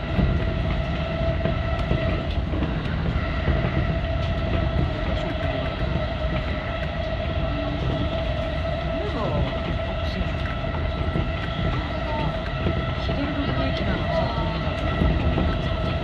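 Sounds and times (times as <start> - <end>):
constant train whine: 0.0 - 16.0
train wheels rumbling on rail: 0.0 - 16.0.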